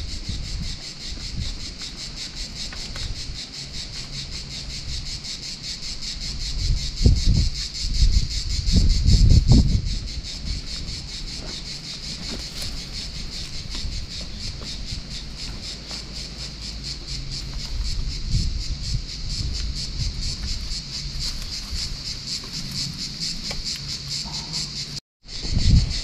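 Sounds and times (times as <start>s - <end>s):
cicadas singing: 0.0s - 26.0s
wind rumbling on microphone: 0.0s - 26.0s.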